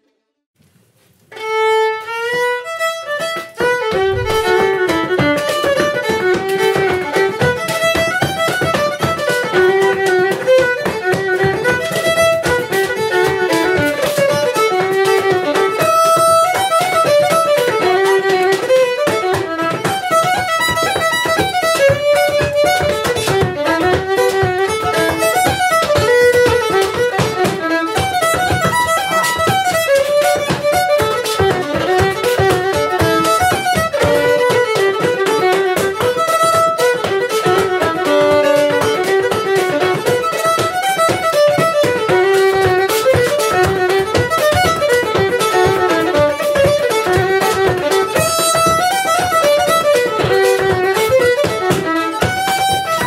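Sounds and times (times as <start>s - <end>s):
dance steps on stone floor: 0.6s - 53.0s
fiddle dance tune: 0.9s - 53.0s.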